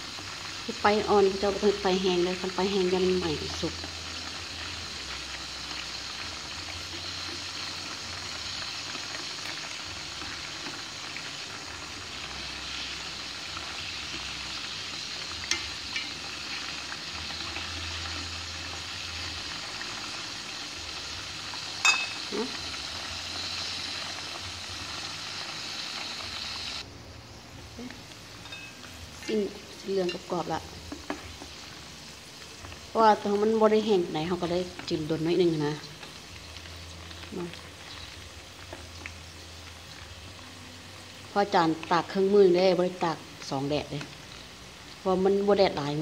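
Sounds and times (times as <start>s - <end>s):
meat deep-frying in oil: 0.0s - 46.0s.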